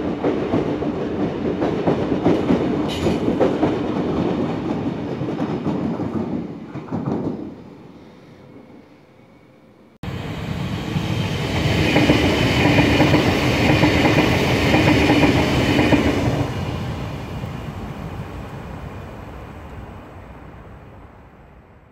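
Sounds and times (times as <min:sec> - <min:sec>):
train passing on rails: 0:00.0 - 0:21.9.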